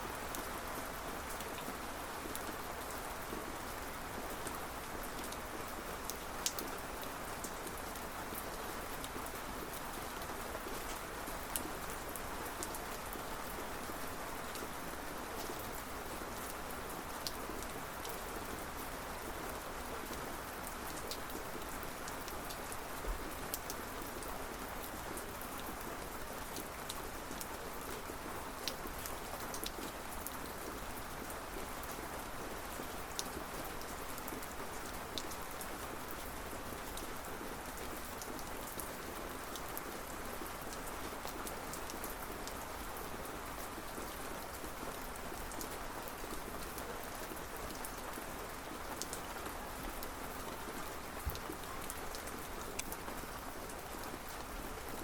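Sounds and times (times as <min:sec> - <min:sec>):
raindrops ticking on a surface: 0:04.2 - 0:13.8, 0:17.2 - 0:55.0.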